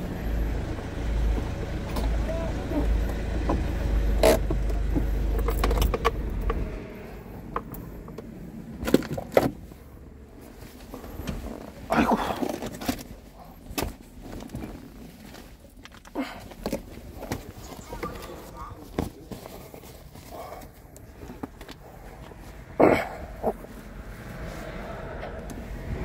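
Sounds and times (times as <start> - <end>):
vehicle rumble from cab: 0.0 - 26.0.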